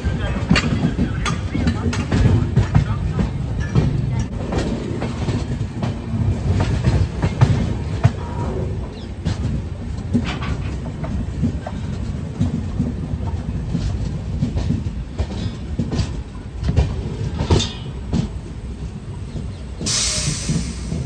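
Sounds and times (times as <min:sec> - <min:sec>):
train coach rumble: 0:00.0 - 0:21.0
wheels clacking on rails: 0:00.0 - 0:21.0.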